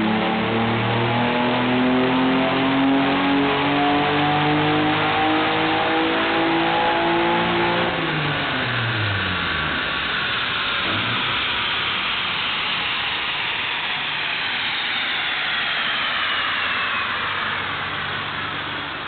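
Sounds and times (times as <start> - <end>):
car engine revving on dyno: 0.0 - 19.0.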